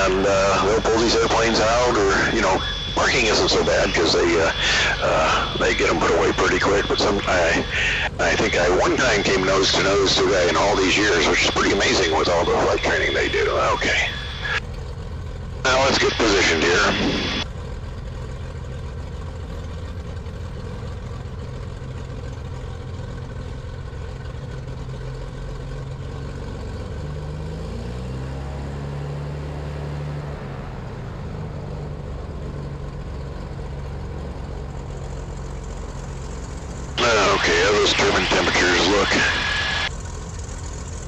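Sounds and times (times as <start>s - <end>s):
twin piston engines running: 0.0s - 27.4s, 30.7s - 41.0s.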